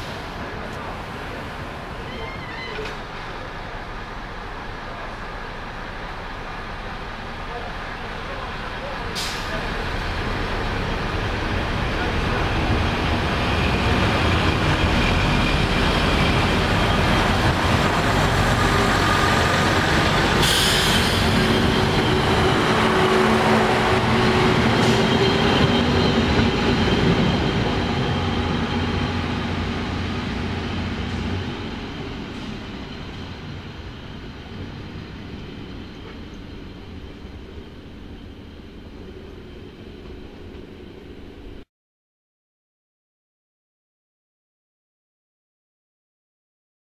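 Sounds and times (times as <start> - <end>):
diesel railcar engines accelerating: 0.0 - 41.6.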